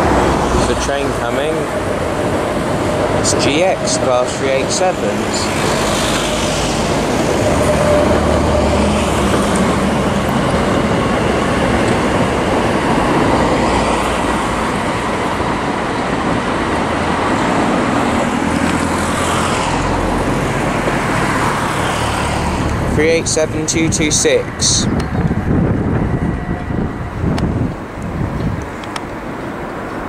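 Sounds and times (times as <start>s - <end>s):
electric train running past: 0.0s - 30.0s.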